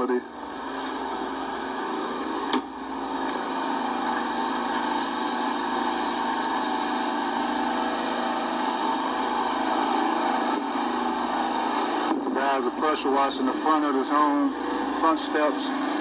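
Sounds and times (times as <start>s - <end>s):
pressure washer running: 0.0s - 16.0s.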